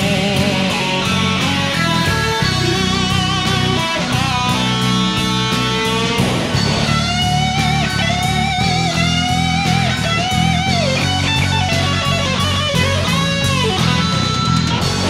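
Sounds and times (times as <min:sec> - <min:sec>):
electric lead guitar melody: 0:00.0 - 0:15.0
rock band playing: 0:00.0 - 0:15.0.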